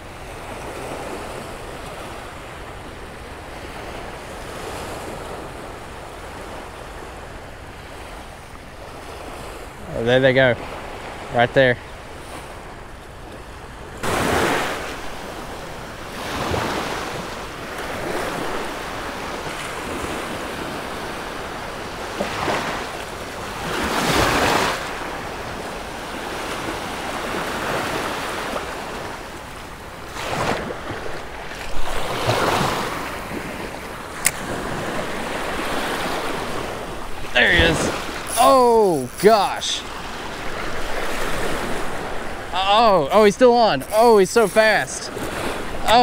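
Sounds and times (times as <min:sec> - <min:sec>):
small waves breaking on sand: 0:00.0 - 0:46.0.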